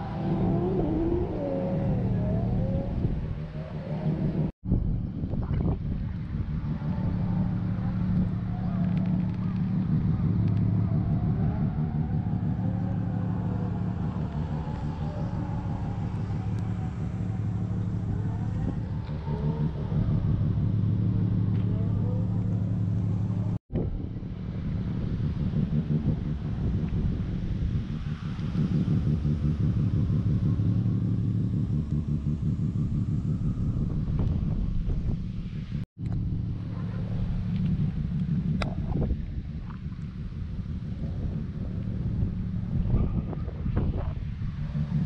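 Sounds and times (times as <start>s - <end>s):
car engine idling: 5.6s - 45.0s.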